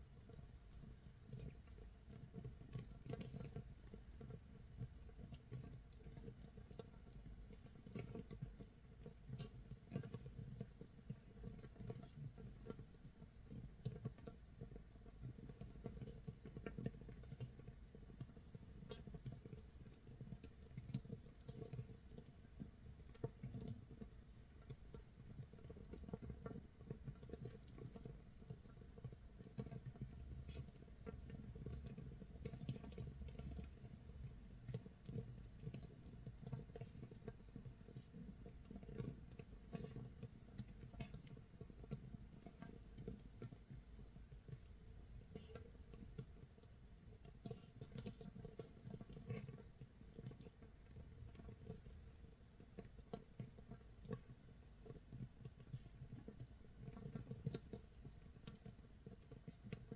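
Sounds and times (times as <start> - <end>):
crackling of tiny popping bubbles: 0.1 - 59.9.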